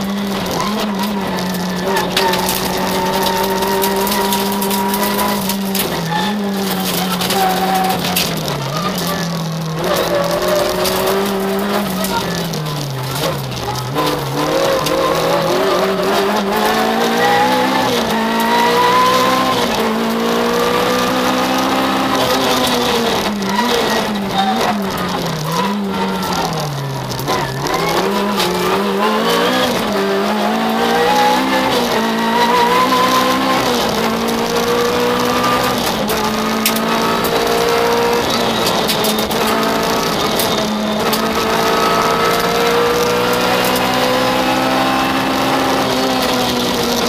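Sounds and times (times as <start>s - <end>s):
car engine revving through gears: 0.0s - 47.0s.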